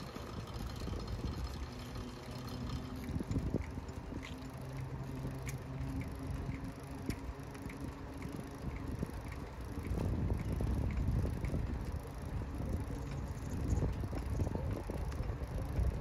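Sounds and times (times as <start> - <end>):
bicycle tyre rumble: 0.0 - 16.0
wind buffeting microphone: 0.0 - 16.0.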